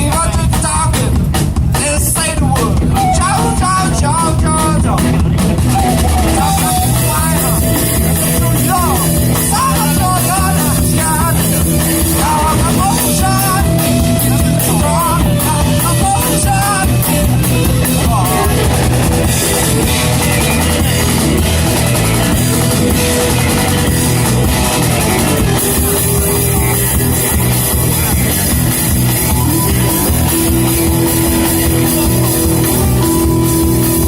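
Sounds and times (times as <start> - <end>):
rock band playing: 0.0 - 34.0
sung melody: 1.7 - 34.0.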